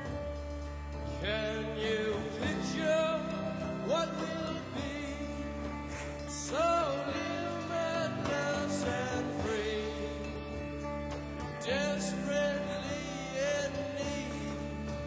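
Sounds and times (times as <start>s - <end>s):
guitar backing: 0.0s - 15.0s
person singing: 1.1s - 10.8s, 11.6s - 15.0s.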